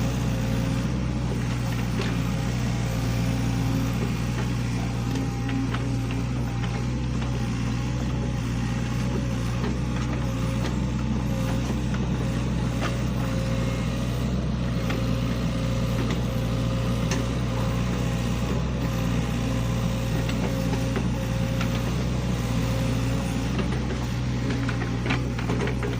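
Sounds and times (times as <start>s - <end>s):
excavator diesel engine running: 0.0s - 25.9s.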